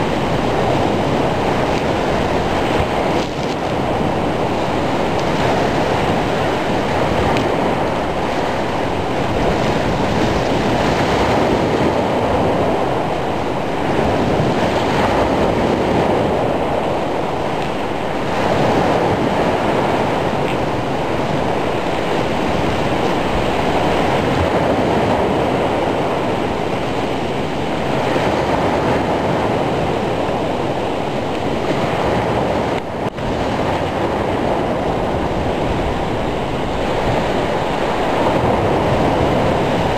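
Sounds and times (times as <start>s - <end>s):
heavy surf breaking waves: 0.0s - 39.9s.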